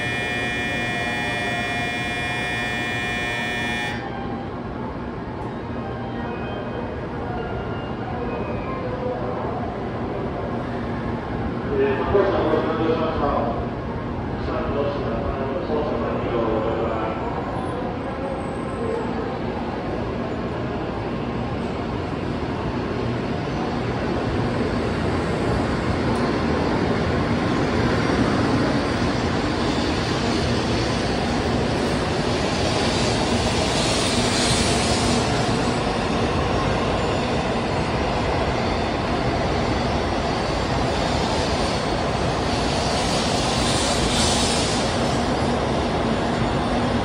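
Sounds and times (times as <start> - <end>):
train rolling past: 0.0 - 47.0.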